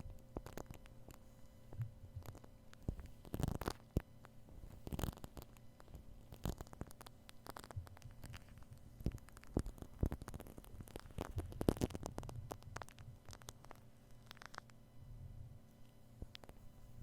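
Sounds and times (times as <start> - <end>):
shaving cream crackling and squishing: 0.0 - 1.4, 2.1 - 14.8
low steady hum: 0.0 - 17.0.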